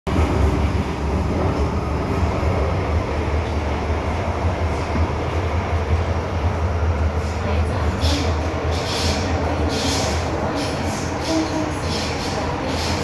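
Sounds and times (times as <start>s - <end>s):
train wheels rumbling on rails: 0.1s - 13.0s.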